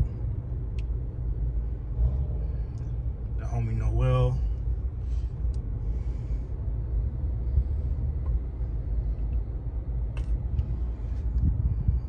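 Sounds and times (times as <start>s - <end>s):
car rumbling in traffic: 0.0s - 12.0s.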